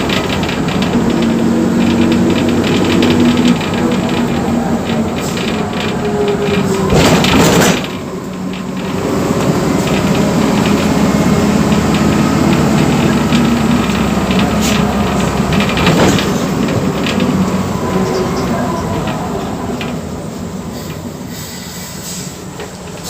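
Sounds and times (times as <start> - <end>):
clicks and rattles: 0.0 - 19.2
bus diesel engine running: 0.0 - 23.0.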